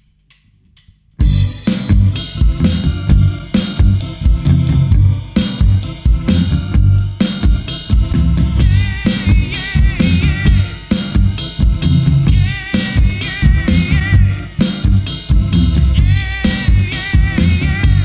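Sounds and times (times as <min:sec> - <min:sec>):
rock band playing: 0:01.2 - 0:18.0
wavering lead melody: 0:01.2 - 0:18.0.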